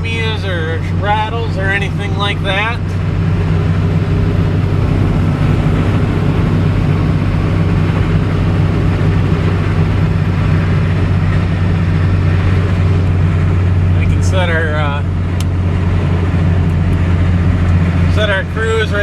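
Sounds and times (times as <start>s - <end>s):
road noise: 0.0s - 19.0s
truck diesel engine cruising: 0.0s - 19.0s.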